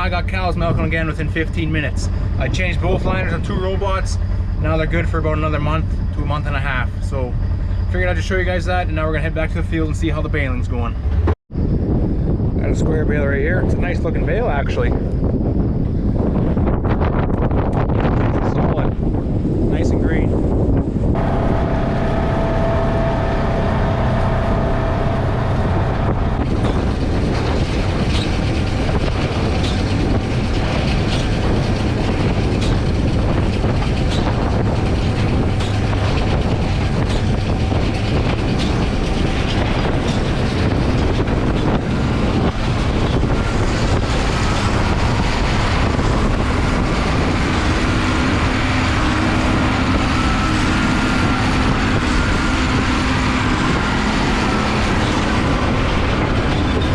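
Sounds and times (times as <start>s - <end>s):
tractor engine running: 0.0s - 12.4s, 19.0s - 56.9s.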